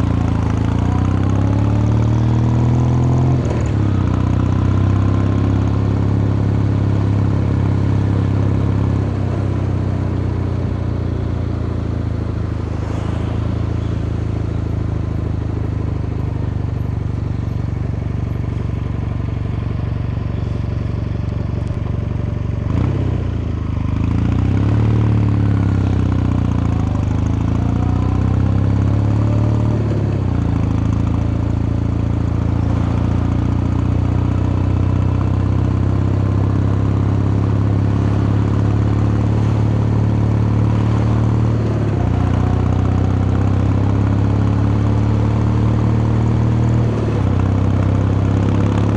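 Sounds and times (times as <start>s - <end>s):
motorcycle engine humming: 0.0s - 48.9s.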